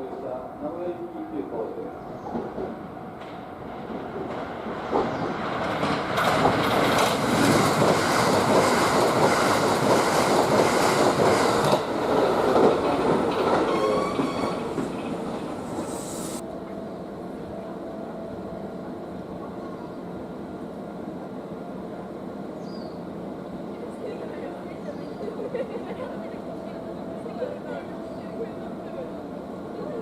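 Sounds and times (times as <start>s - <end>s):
electric train passing: 0.0s - 30.0s
train whine: 0.0s - 30.0s.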